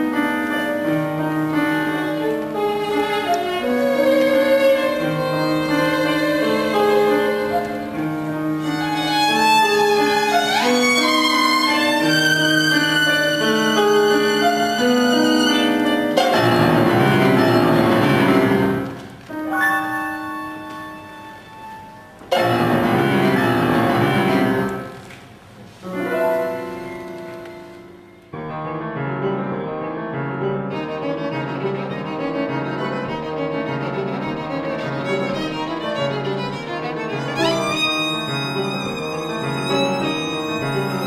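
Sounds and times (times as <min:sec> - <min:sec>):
violin playing: 0:00.0 - 0:24.9, 0:30.6 - 0:41.0
piano chords: 0:00.0 - 0:41.0.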